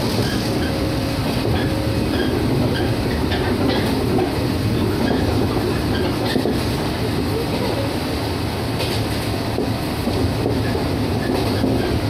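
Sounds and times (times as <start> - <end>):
wheels clacking over rail joints: 0.0 - 7.1, 8.7 - 12.0
train wheels rumbling on rail: 0.0 - 12.0.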